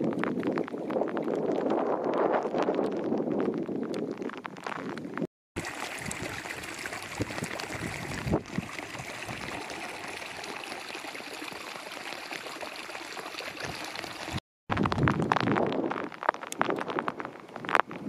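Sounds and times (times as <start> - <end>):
water trickling over stones: 0.0 - 18.0.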